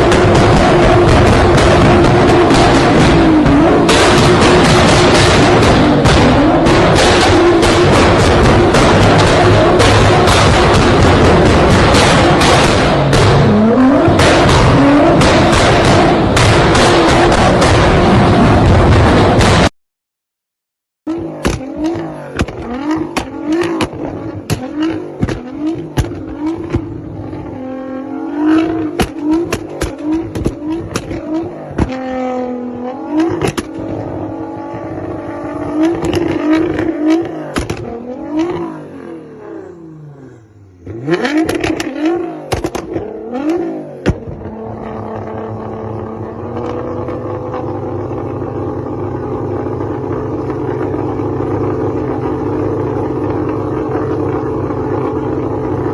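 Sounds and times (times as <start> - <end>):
car engine revving: 0.0 - 19.6, 21.1 - 55.9
exhaust pops and bangs: 0.0 - 19.7, 21.1 - 27.7, 28.4 - 38.8, 41.0 - 55.9.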